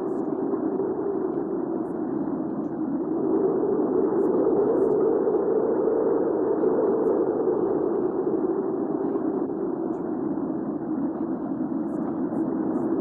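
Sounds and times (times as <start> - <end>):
strong wind rushing: 0.0 - 13.0.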